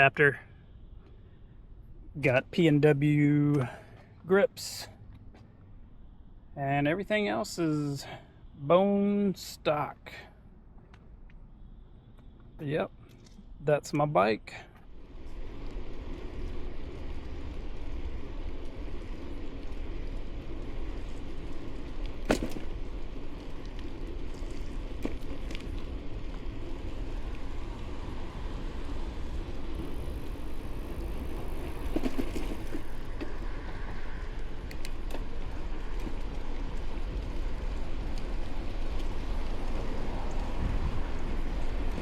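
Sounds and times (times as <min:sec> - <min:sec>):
bike tyres rolling: 0:01.0 - 0:42.0.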